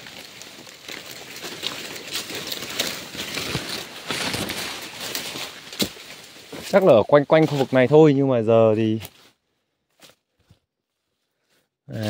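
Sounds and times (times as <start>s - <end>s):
footsteps through dry leaves: 0.0s - 10.3s
twigs crackling: 0.0s - 12.0s.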